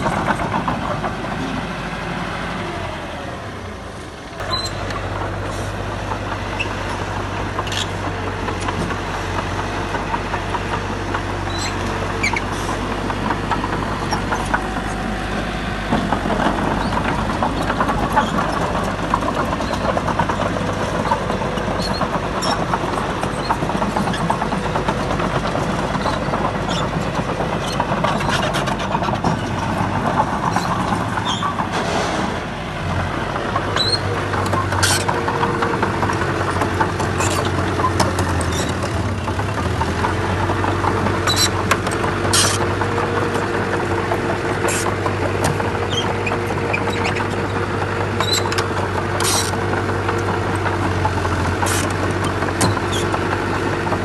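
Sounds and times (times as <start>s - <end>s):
diesel construction machinery running: 0.0s - 54.0s.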